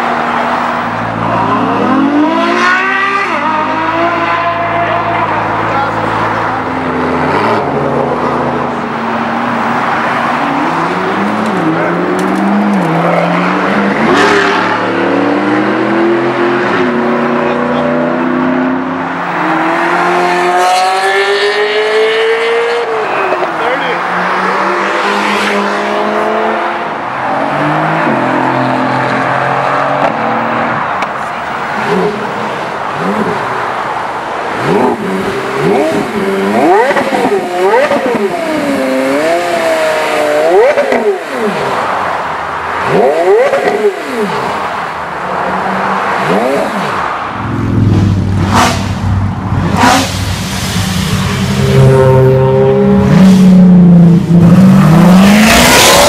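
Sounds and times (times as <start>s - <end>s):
traffic passing: 0.0s - 56.0s
sports car engine revving: 0.4s - 30.8s, 34.5s - 41.9s, 42.8s - 44.8s, 45.4s - 56.0s.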